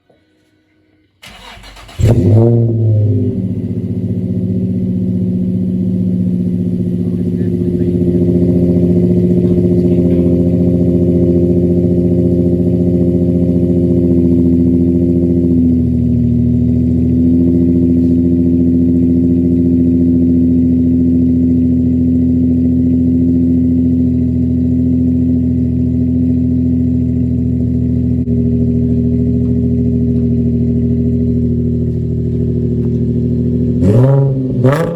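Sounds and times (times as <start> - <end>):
car engine cranking and idling: 1.2 - 34.9.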